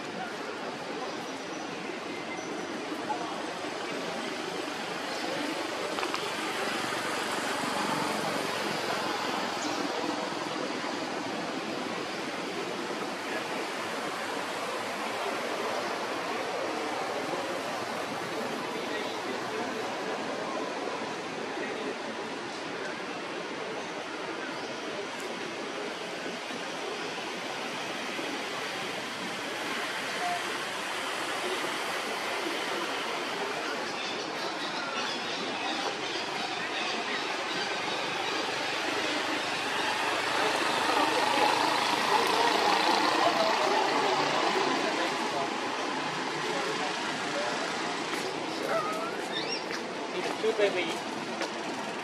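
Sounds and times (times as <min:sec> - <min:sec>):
steady outdoor rushing noise: 0:00.0 - 0:52.0.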